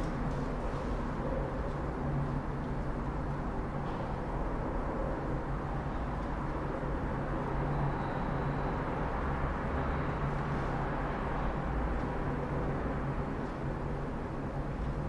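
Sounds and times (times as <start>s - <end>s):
office ambience low rumble: 0.0s - 15.0s.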